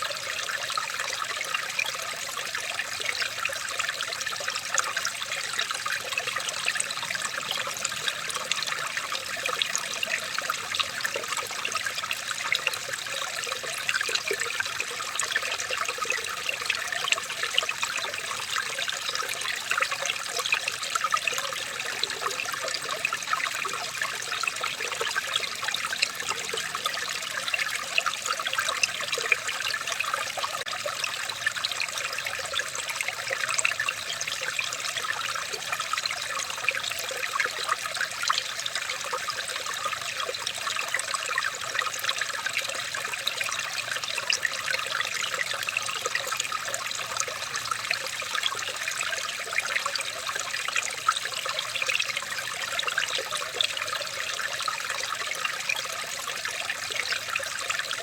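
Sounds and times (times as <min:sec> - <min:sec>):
water trickling and gurgling: 0:00.0 - 0:58.0.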